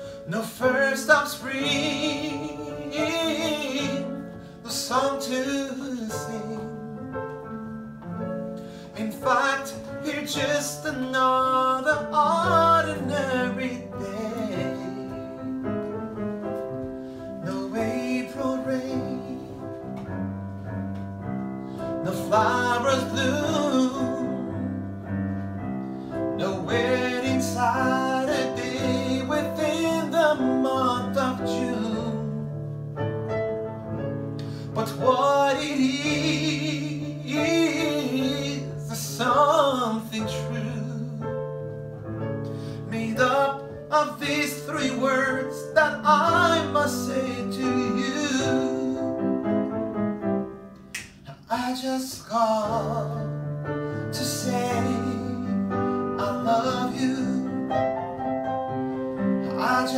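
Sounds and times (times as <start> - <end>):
man singing a slow song: 0.0 - 7.7, 8.6 - 16.6, 17.3 - 20.2, 21.9 - 25.0, 26.2 - 32.8, 34.4 - 41.8, 42.4 - 49.7, 51.3 - 58.3, 59.4 - 59.9.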